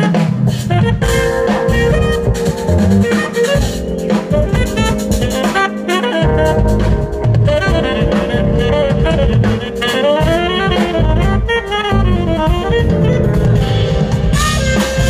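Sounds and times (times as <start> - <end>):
drum kit and percussion: 0.0 - 15.0
tenor saxophone jazz solo: 0.0 - 15.0.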